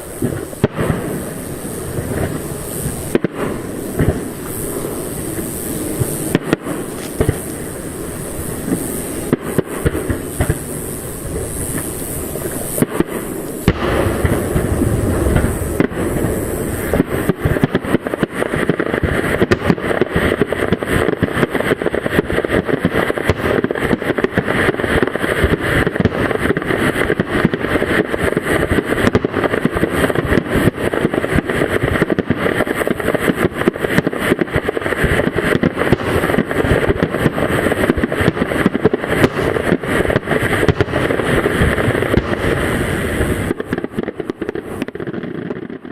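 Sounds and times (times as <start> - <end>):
firework shell bursts booming: 0.0 - 45.9
fireworks crackling: 0.0 - 45.9.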